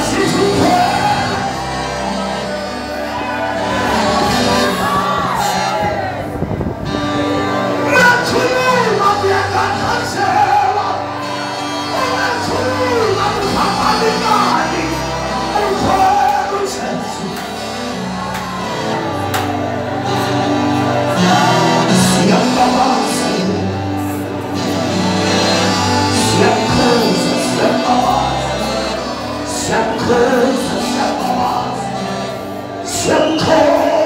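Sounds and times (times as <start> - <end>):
people singing worship music: 0.0 - 34.0
steady bass line: 0.0 - 34.0.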